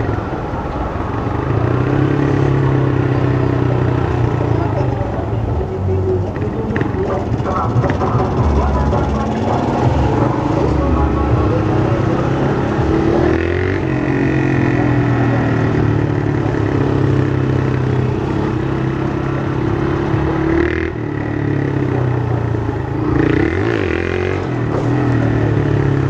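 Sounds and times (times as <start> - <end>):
motorcycle engine revving: 1.0 - 26.0.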